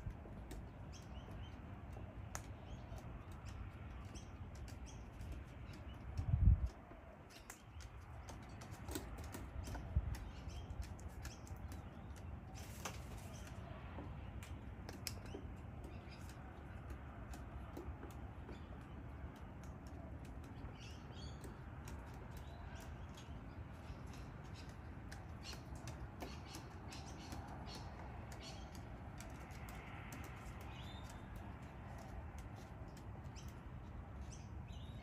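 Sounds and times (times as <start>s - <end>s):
wings fluttering: 0.0s - 34.4s.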